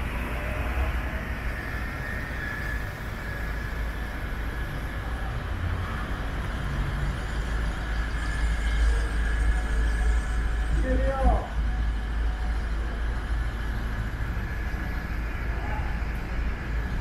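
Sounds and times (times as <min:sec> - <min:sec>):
faint thin whine: 0:00.0 - 0:17.0
rumble of vehicle traffic: 0:00.0 - 0:17.0.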